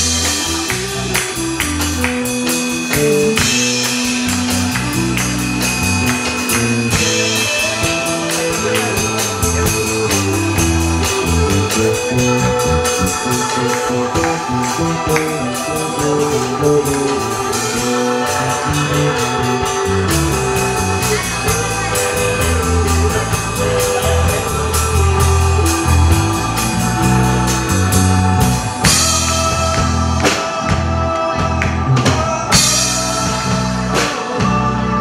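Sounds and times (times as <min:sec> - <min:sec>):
drum beat: 0:00.0 - 0:33.7
electric bass: 0:00.0 - 0:35.0
electric guitar: 0:00.0 - 0:35.0
keyboards: 0:00.0 - 0:35.0.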